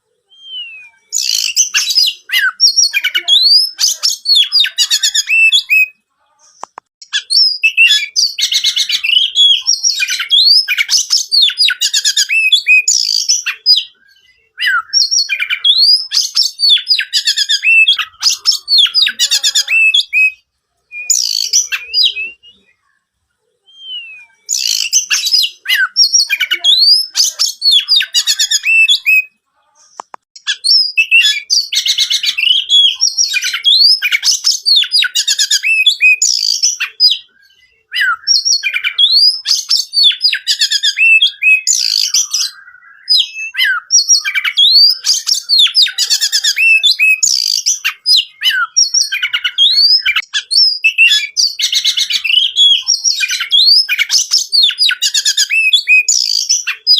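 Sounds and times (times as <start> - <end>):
bird singing whistles and trills: 0.2 - 6.0, 7.0 - 23.0, 23.6 - 29.3, 30.4 - 56.9.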